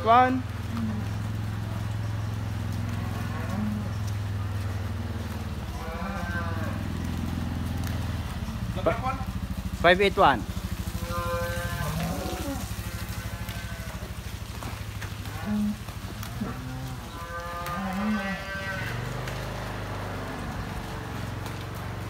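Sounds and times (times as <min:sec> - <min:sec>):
cows mooing: 0:00.0 - 0:09.8, 0:10.4 - 0:22.0
low mechanical drone: 0:00.0 - 0:22.0.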